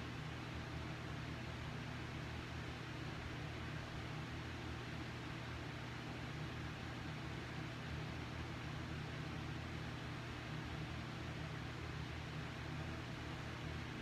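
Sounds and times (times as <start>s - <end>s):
low hum with hiss: 0.0s - 14.0s.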